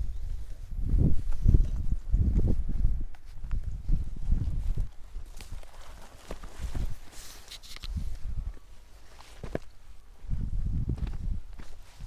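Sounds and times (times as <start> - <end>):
footsteps on stony path: 0.4 - 12.0.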